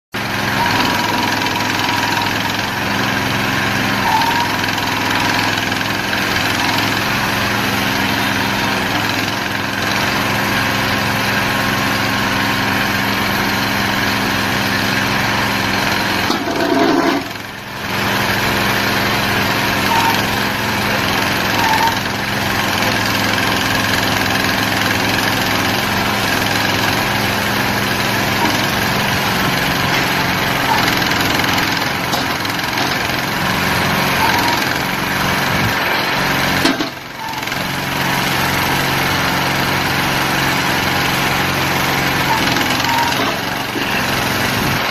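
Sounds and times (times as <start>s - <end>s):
small excavator engine running: 0.2s - 44.9s.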